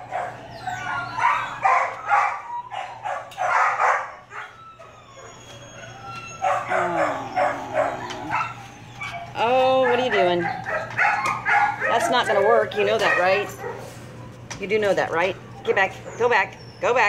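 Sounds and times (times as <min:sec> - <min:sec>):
dog yipping: 0:00.0 - 0:13.8
dog whining: 0:00.0 - 0:14.5, 0:15.2 - 0:17.0.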